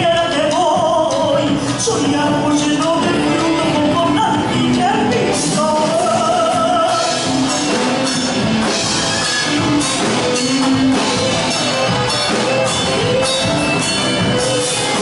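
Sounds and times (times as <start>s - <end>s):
band music with drums and guitar: 0.0s - 15.0s.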